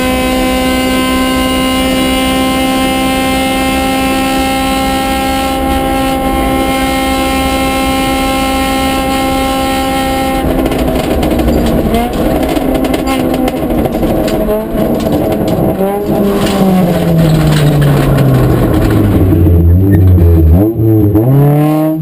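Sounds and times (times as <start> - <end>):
rally car engine at full throttle: 0.0 - 22.0.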